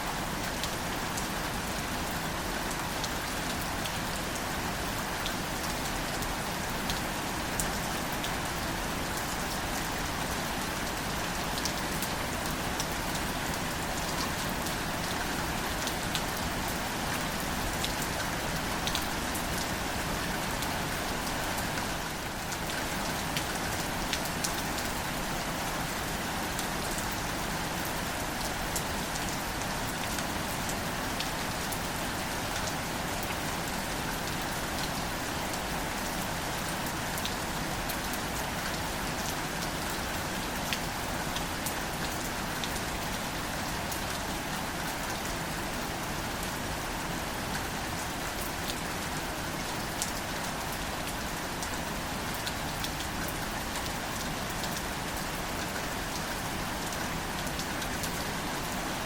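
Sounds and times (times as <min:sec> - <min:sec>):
gentle rain patter: 0:00.0 - 0:59.0.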